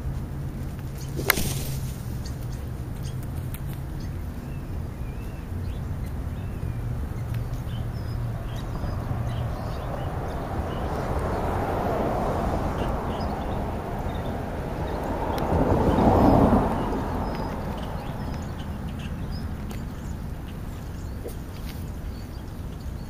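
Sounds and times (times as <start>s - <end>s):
road traffic hum: 0.0s - 23.0s
small birds chirping: 0.0s - 23.0s
birds pecking at food: 0.2s - 11.5s, 12.8s - 23.0s.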